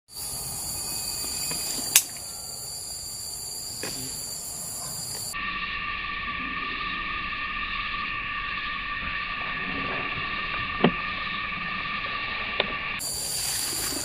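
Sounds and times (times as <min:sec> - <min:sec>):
insects chorus: 0:00.1 - 0:14.0.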